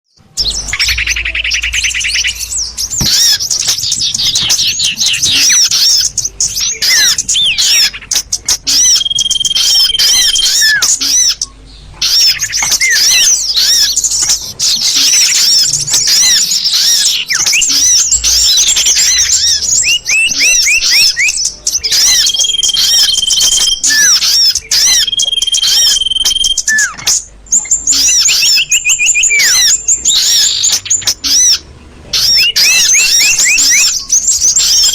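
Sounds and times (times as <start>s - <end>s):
high bird chirps: 0.1s - 34.9s
buzzy bird trill: 0.2s - 34.9s
held bird whistles: 0.4s - 11.4s, 12.0s - 31.6s, 32.2s - 34.9s.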